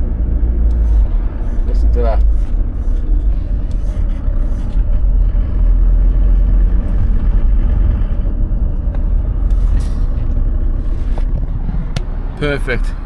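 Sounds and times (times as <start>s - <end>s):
diesel van engine rumble: 0.0s - 13.0s.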